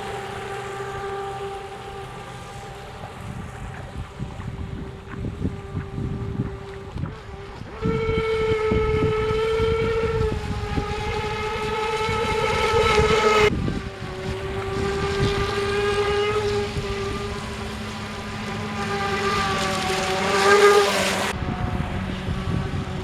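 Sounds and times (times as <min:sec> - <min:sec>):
boat motor whining: 0:00.0 - 0:23.0
wind rumbling on microphone: 0:00.0 - 0:23.0.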